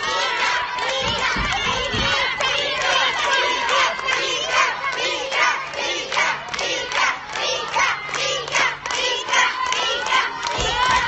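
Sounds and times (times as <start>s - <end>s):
children cheering and shouting: 0.0s - 11.0s
rhythmic clapping: 0.0s - 11.0s.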